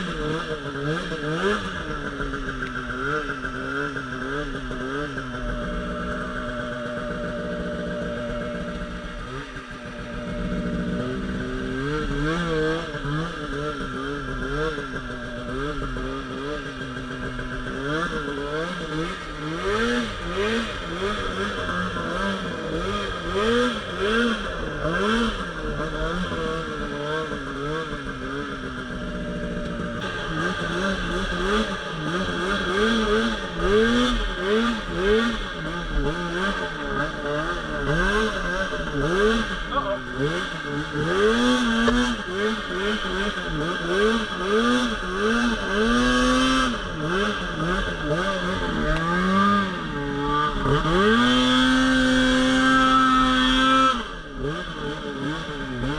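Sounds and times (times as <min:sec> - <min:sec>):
snowmobile engine revving: 0:00.0 - 0:55.9.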